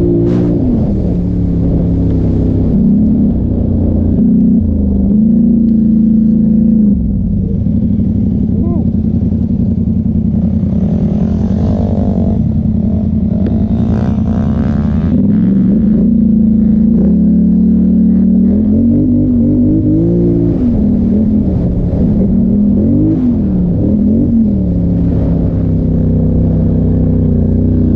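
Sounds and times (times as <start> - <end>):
atv engine revving: 0.0 - 27.9.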